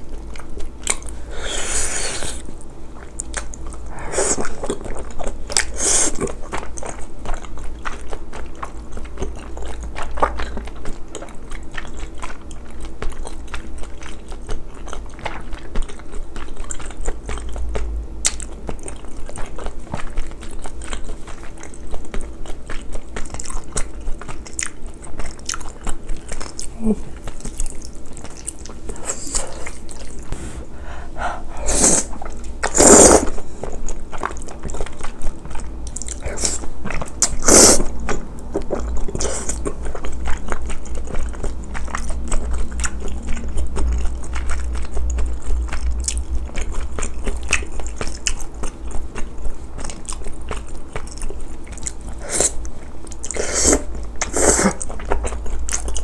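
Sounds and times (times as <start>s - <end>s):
wet chewing and biting: 0.0s - 56.0s.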